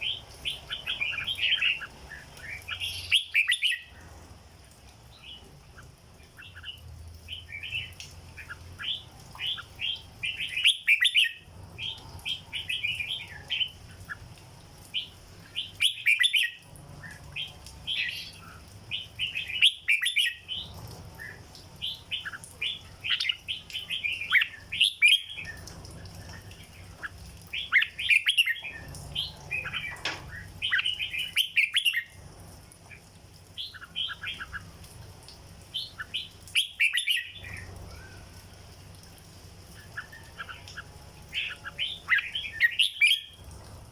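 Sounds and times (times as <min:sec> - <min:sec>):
bird singing bright chirps: 0:00.0 - 0:04.2, 0:05.1 - 0:14.2, 0:14.8 - 0:32.2, 0:32.9 - 0:34.8, 0:35.7 - 0:38.4, 0:39.7 - 0:43.5.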